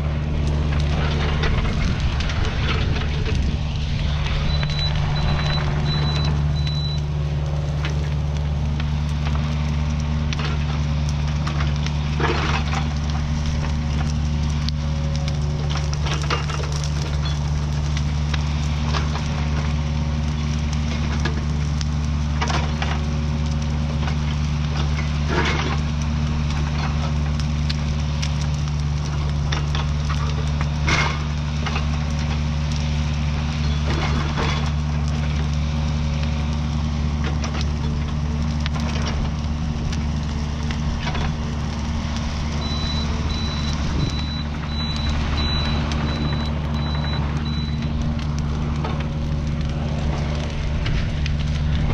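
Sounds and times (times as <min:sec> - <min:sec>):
excavator diesel engine running: 0:00.0 - 0:51.9
wood cracking and snapping: 0:00.0 - 0:51.9.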